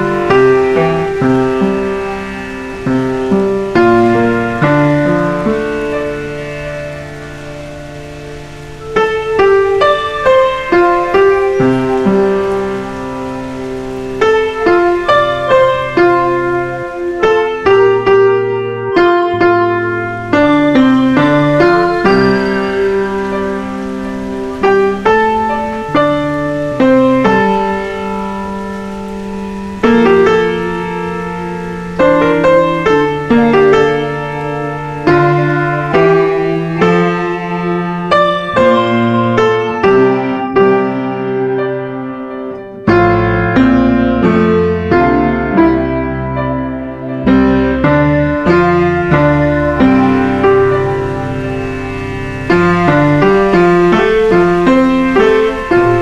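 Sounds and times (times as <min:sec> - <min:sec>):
slow piano chords: 0:00.0 - 0:56.0.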